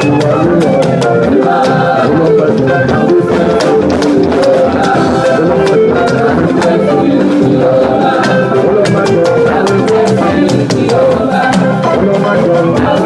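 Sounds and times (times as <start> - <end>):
church choir singing: 0.0 - 13.0
drums beating: 0.0 - 13.0.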